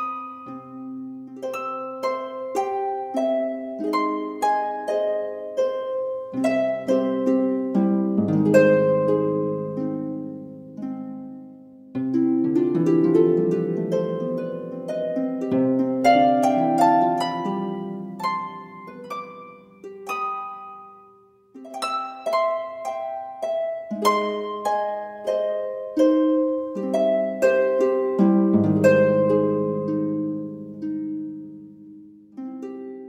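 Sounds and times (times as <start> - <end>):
plucked instrumental music: 0.0 - 33.0.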